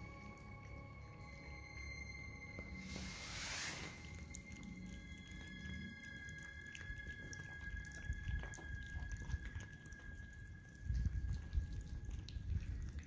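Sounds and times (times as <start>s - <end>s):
cats chewing and lapping: 2.5s - 13.0s.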